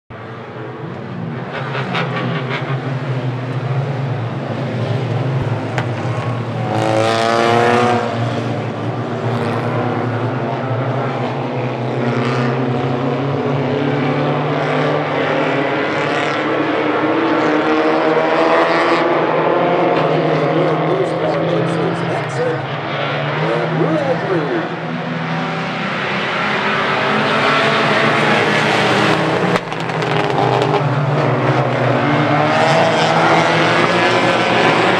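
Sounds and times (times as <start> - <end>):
race car engines droning: 0.1 - 34.9
race car passing close: 0.2 - 34.9.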